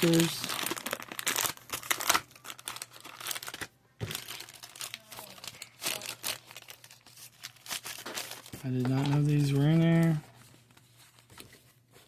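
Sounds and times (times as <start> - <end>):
toy packaging crinkling: 0.0 - 11.1.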